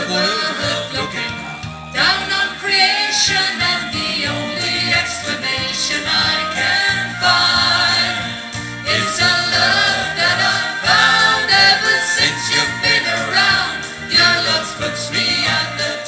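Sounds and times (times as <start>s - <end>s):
keyboard-led band playing: 0.0s - 16.0s
voices singing in harmony: 0.0s - 16.0s.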